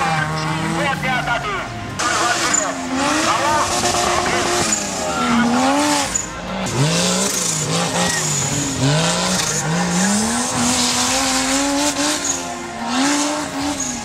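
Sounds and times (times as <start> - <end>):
engine revving: 0.0 - 14.0
steady noisy rush: 0.0 - 14.0.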